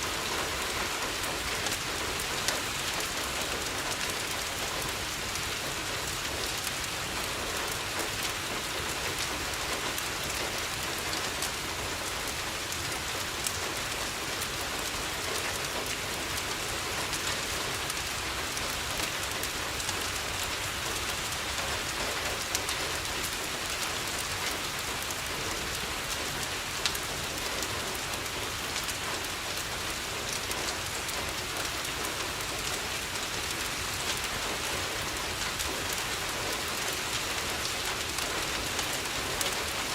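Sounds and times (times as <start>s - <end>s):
rain falling on a window: 0.0s - 39.9s
wood fire crackling: 0.0s - 39.9s.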